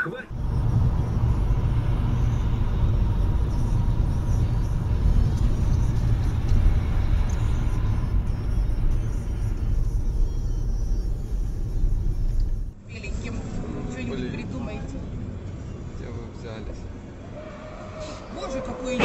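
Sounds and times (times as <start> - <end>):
car road rumble: 0.0 - 19.0.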